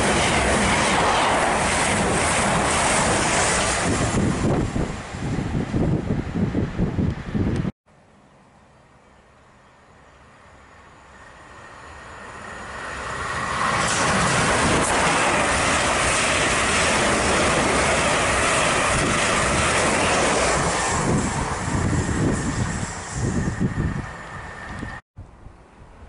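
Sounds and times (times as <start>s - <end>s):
passenger train passing: 0.0s - 7.7s, 9.8s - 25.0s.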